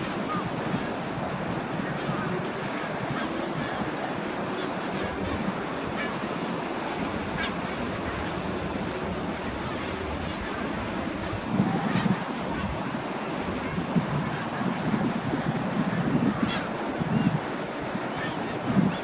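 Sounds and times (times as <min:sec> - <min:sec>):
sea surf on rocky shore: 0:00.0 - 0:19.0
wind noise on microphone: 0:00.0 - 0:19.0.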